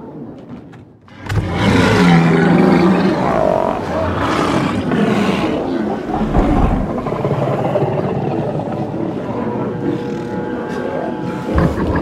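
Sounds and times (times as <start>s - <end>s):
walruses bellowing and grunting: 1.2s - 12.0s.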